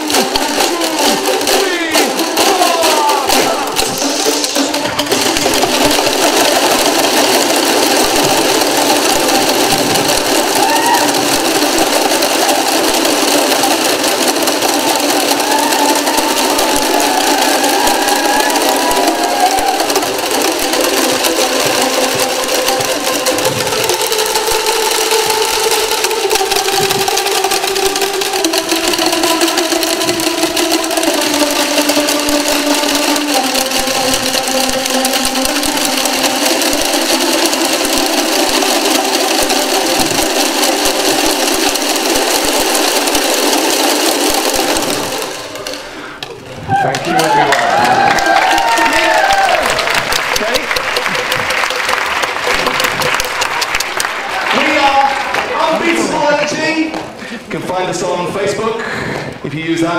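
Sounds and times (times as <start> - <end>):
boomwhackers clattering: 0.0 - 59.9.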